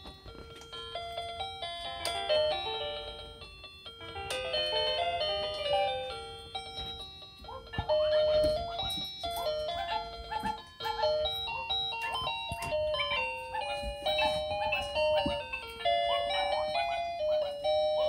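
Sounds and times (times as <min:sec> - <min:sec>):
toy keyboard beeping melody: 0:00.0 - 0:18.0.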